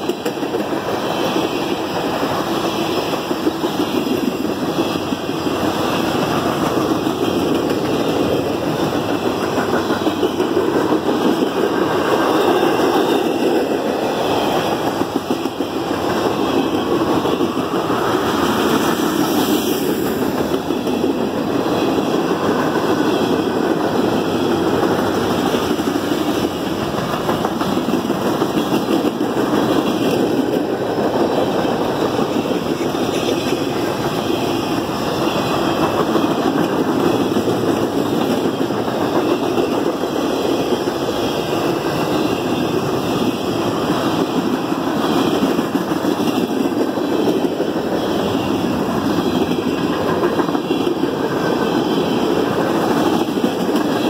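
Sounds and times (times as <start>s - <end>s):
freight cars rolling on rails: 0.0s - 54.0s.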